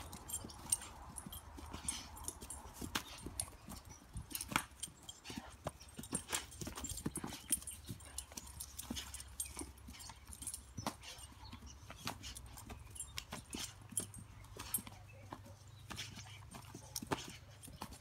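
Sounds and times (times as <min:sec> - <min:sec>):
puppy paws thudding on grass: 0:00.0 - 0:18.0.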